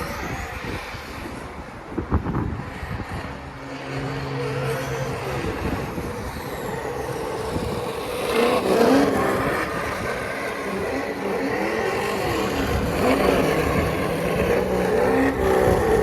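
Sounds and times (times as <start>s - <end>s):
simulated engine sound from speaker: 0.0s - 16.0s.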